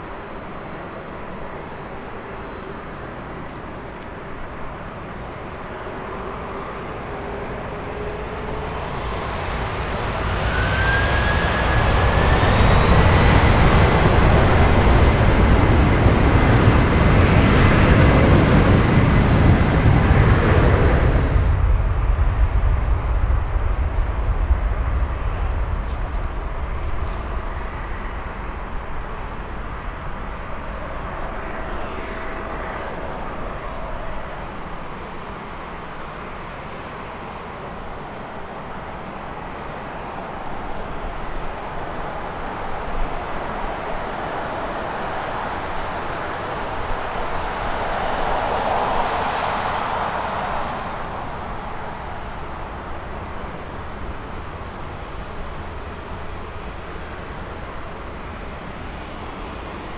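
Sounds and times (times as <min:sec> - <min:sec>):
jet engines at taxi power: 0:00.0 - 0:59.9.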